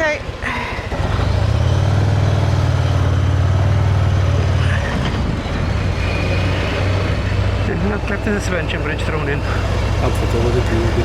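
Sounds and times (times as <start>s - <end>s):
road and wind noise: 0.0s - 11.0s
motorcycle engine running: 0.9s - 11.0s.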